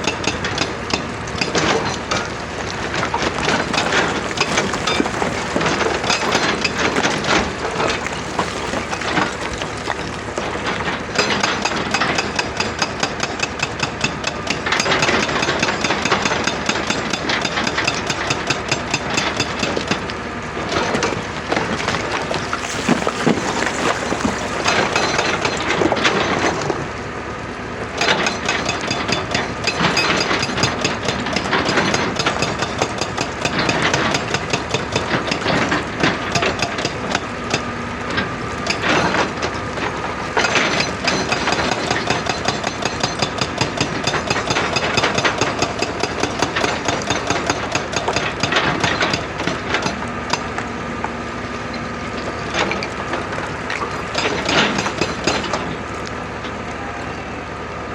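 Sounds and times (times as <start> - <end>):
hydraulic breaker hammering rock: 0.0 - 27.0, 27.8 - 51.3, 52.0 - 56.1
excavator engine running: 0.0 - 57.9.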